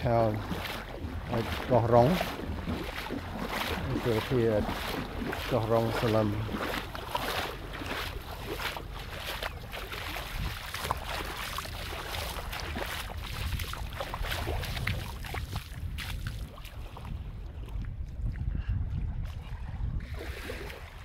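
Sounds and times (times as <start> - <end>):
footsteps wading in shallow water: 0.0 - 21.0
wind on microphone: 0.0 - 21.0.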